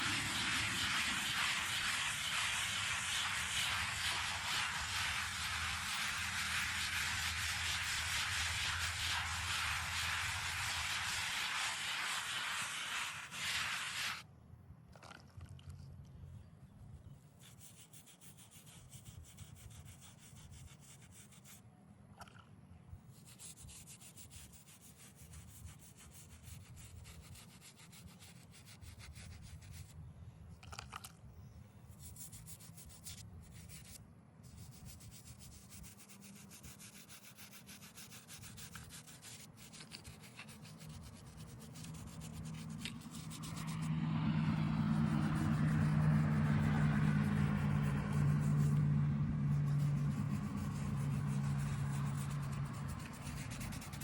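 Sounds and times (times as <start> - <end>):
rubbing on stone headstone: 0.0 - 14.2, 17.4 - 21.6, 23.1 - 30.0, 31.9 - 43.9, 44.9 - 54.0.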